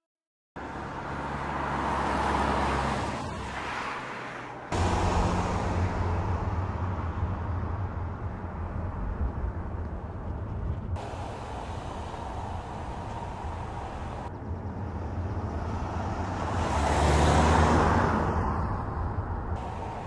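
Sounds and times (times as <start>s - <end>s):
car passing: 0.6s - 20.0s
low engine hum with road noise: 0.6s - 20.0s.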